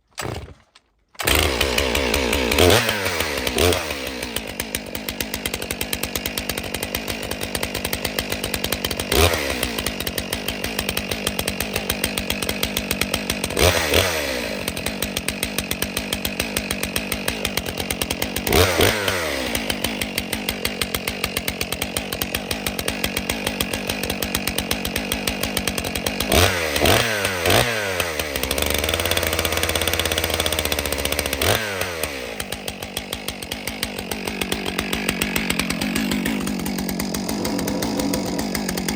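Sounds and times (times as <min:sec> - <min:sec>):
chainsaw engine idling and revving: 0:00.1 - 0:38.9.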